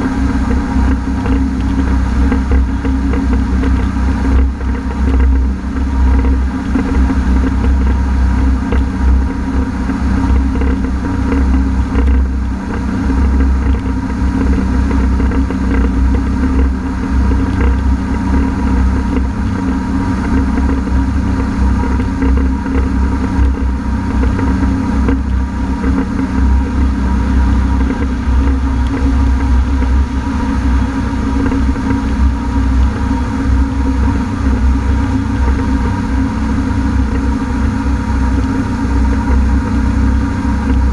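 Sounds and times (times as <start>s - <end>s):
watercraft engine droning: 0.0s - 40.9s.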